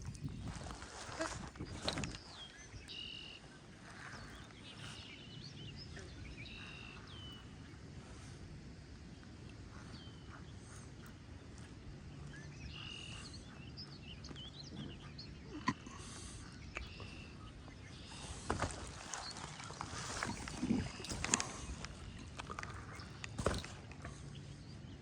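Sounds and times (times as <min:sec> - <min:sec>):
birds chirping: 0:00.0 - 0:25.0
low rumble of wind: 0:00.0 - 0:25.0.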